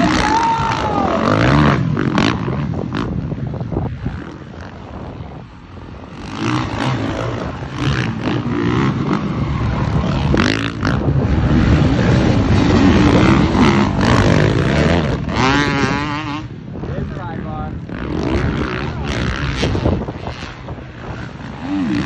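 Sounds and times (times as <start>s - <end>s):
motocross bikes revving past: 0.0s - 22.0s.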